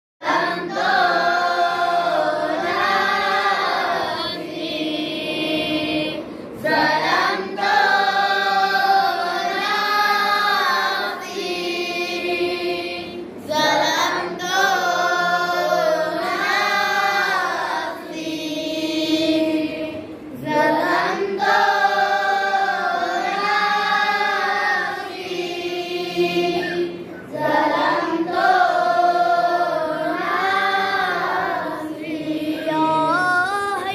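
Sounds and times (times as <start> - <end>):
boys chanting in unison: 0.2 - 33.9.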